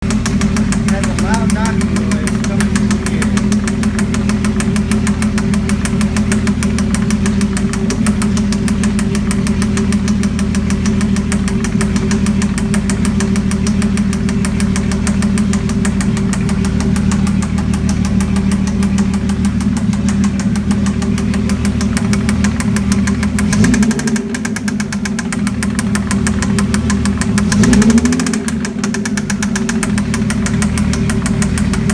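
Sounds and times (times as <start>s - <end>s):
car engine idling with rapid knock: 0.0s - 31.9s.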